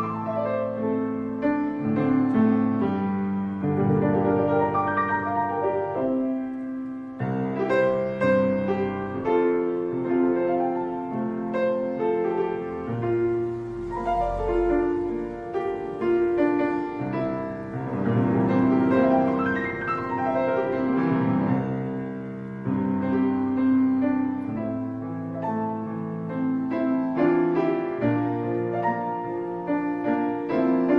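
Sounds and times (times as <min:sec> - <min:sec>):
slow piano melody: 0:00.0 - 0:30.9.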